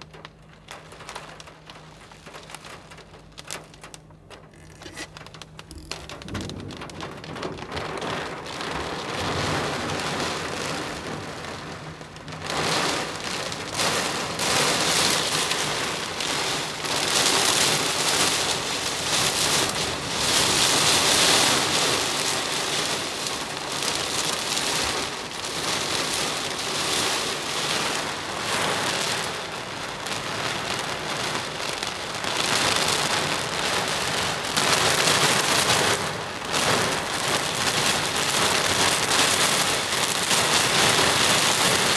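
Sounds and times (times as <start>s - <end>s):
heavy rain on vehicle roof: 0.0s - 41.9s.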